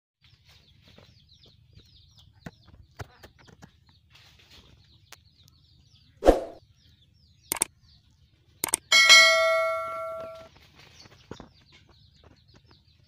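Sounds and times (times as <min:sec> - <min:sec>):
birds chirping: 0:00.2 - 0:13.0.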